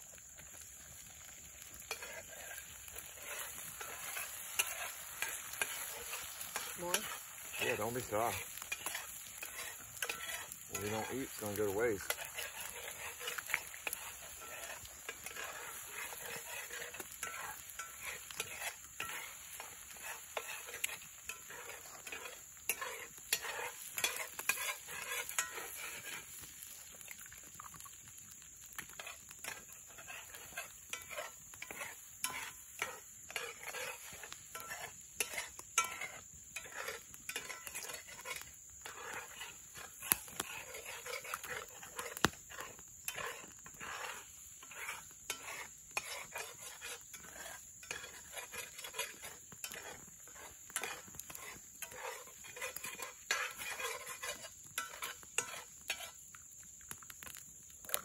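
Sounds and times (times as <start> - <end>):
eggs sizzling in a skillet: 0.0 - 58.0
spatula scraping a pan: 0.2 - 56.4.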